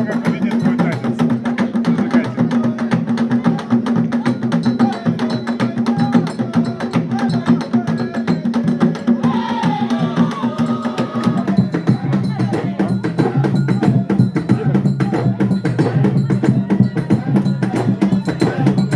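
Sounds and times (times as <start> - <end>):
drums and percussion: 0.0 - 18.9.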